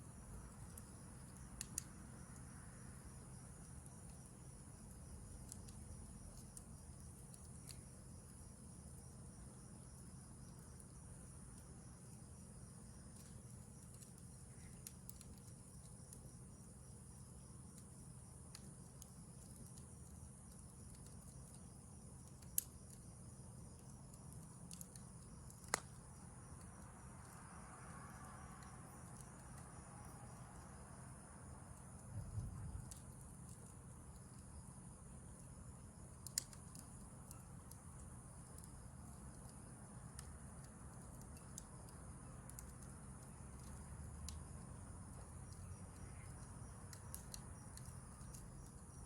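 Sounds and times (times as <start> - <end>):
campfire crackling: 0.0 - 49.0
crickets and night insects chirring: 0.0 - 49.0
sharp campfire pops: 0.0 - 49.0.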